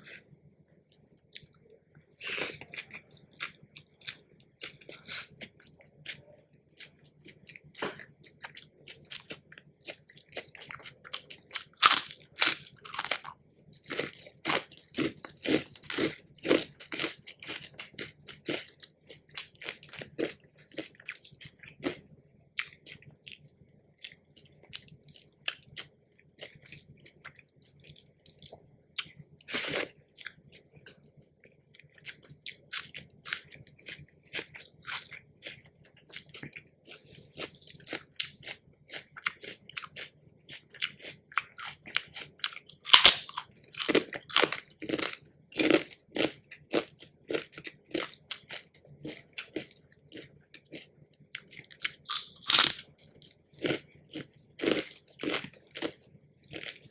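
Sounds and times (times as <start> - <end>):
person chewing crunchy food: 0.9 - 56.9.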